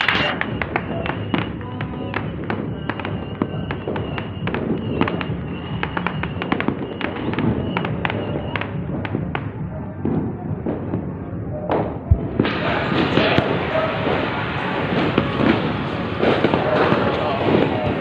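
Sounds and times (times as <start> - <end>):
fireworks popping and banging: 0.0 - 18.0
music playing: 0.0 - 18.0.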